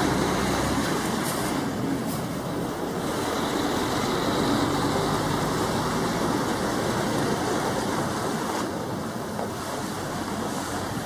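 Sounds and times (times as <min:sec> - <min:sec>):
diesel truck engines running: 0:00.0 - 0:11.0
tyre and road noise: 0:00.0 - 0:11.0.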